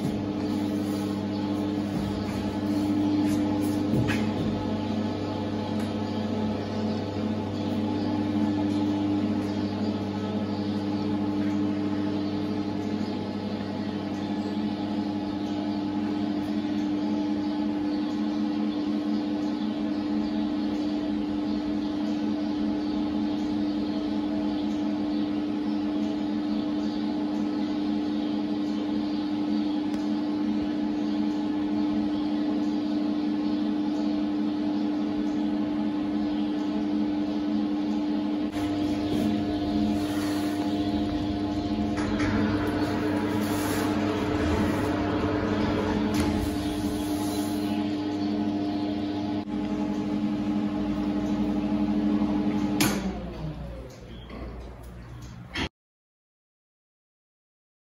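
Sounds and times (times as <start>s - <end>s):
electrical hum: 0.0s - 55.7s.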